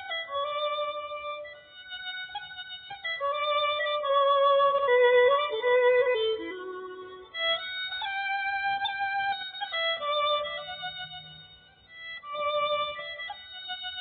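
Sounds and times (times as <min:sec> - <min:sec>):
slow violin melody: 0:00.0 - 0:14.0.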